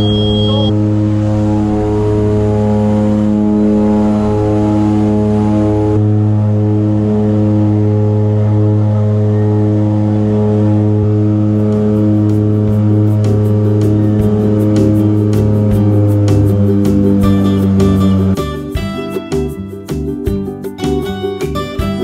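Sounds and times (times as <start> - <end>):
propeller plane engine drone: 0.0 - 18.8.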